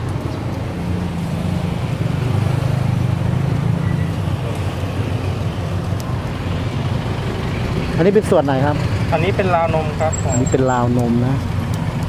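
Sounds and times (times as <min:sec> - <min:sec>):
engine running: 0:00.0 - 0:12.0
road traffic rumble: 0:00.0 - 0:12.0.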